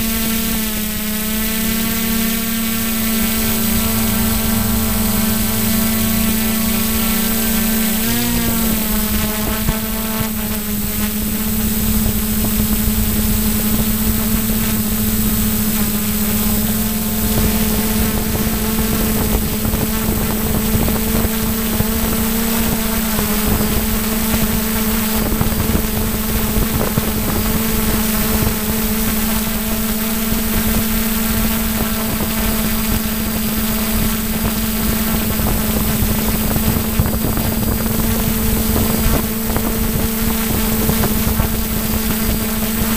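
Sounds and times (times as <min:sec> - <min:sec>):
model airplane motor droning: 0:00.0 - 0:42.9
wind rushing over microphone: 0:01.6 - 0:42.9.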